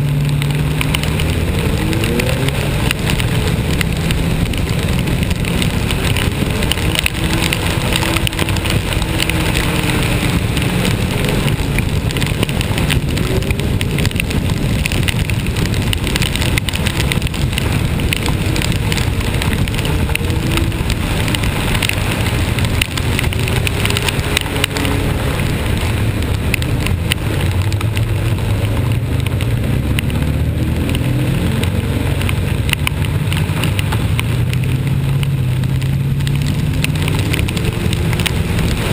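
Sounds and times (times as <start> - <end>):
vehicle engine humming: 0.0 - 38.9
wet road noise: 0.0 - 38.9.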